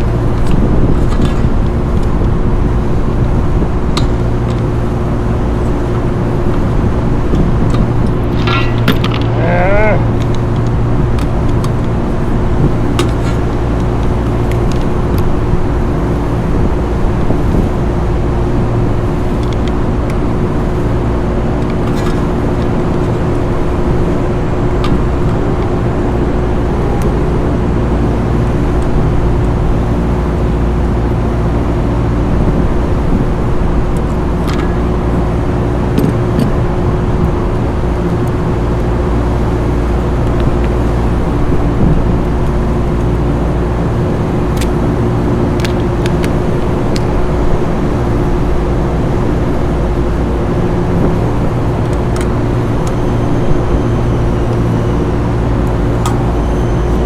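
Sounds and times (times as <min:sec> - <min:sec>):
rooftop machinery droning: 0:00.0 - 0:57.0.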